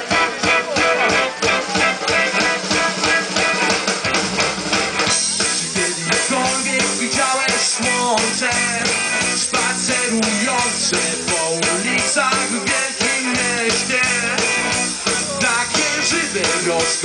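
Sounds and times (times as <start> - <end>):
drum kit beat: 0.0 - 17.0
electric guitars: 0.0 - 17.0.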